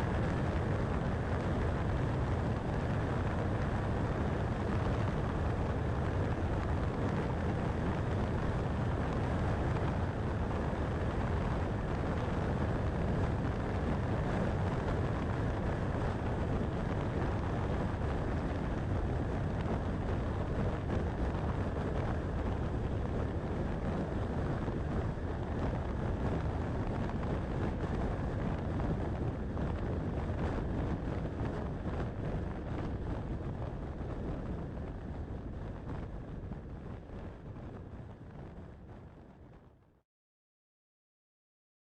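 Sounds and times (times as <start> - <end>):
car road and wind noise: 0.0 - 39.8.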